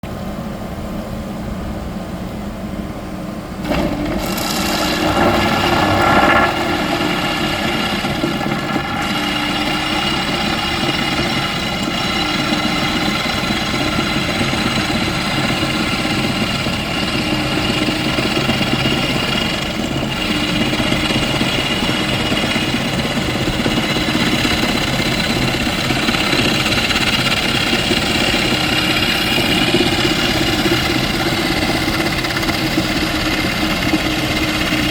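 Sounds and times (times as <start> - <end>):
hydraulic rock drill droning: 3.6 - 34.9.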